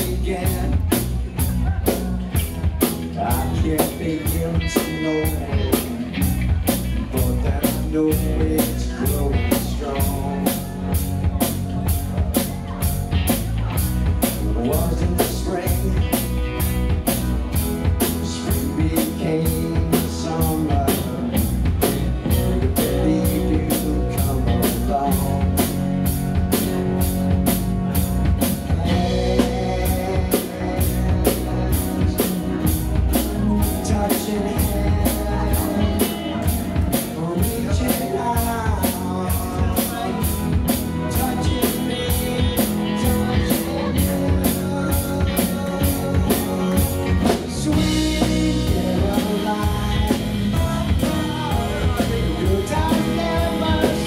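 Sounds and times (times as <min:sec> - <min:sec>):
drum kit steady beat: 0:00.0 - 0:54.0
live rock band playing: 0:00.0 - 0:54.0.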